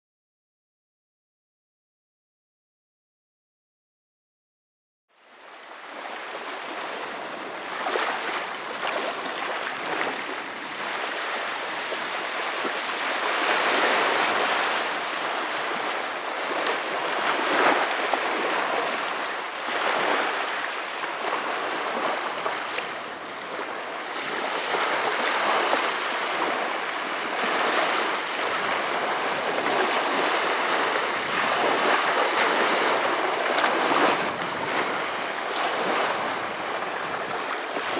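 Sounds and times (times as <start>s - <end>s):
waves washing up a beach: 5.2s - 37.9s.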